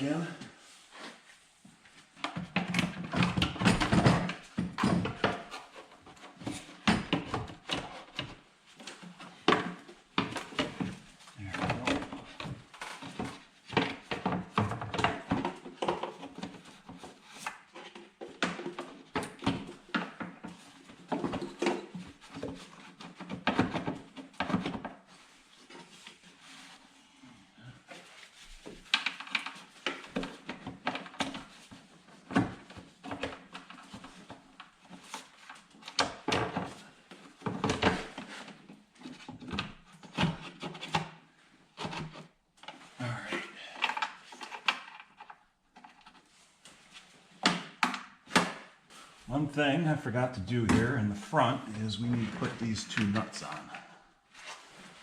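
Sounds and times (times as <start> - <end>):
plastic parts knocking and rattling: 2.2 - 26.8, 27.9 - 48.8.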